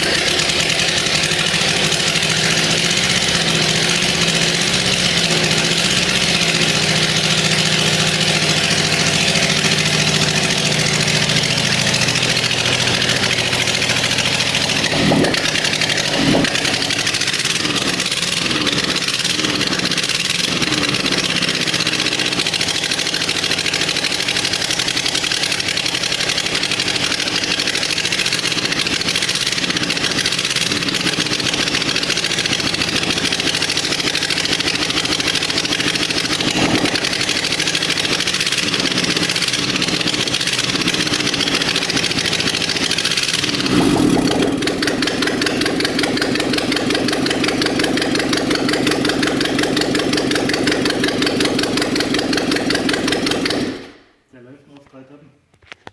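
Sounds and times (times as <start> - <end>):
four-cylinder engine idling and revving: 0.0 - 54.2.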